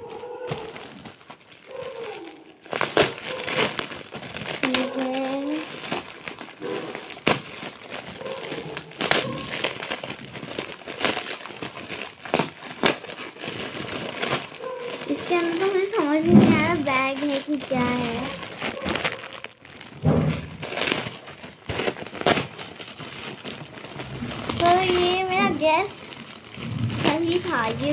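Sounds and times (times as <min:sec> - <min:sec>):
gift wrap crinkling: 0:00.0 - 0:27.9.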